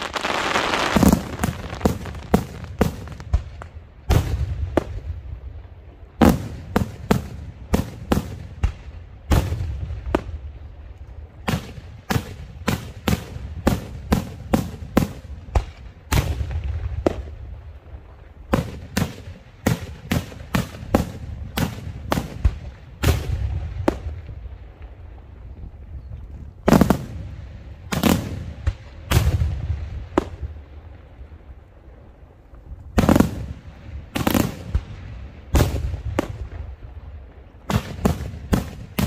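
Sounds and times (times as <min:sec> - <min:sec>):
fireworks sharp bangs: 0:00.0 - 0:05.3, 0:06.2 - 0:10.5, 0:11.4 - 0:17.6, 0:18.4 - 0:25.0, 0:26.6 - 0:30.7, 0:32.9 - 0:39.0
heavy fireworks booms: 0:00.0 - 0:39.0.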